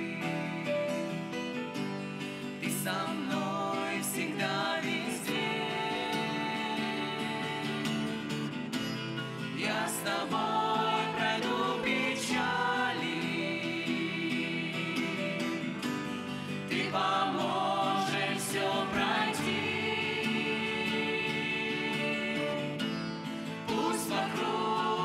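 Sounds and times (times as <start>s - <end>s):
gospel singing: 0.0s - 25.0s
guitar accompaniment: 0.0s - 25.0s.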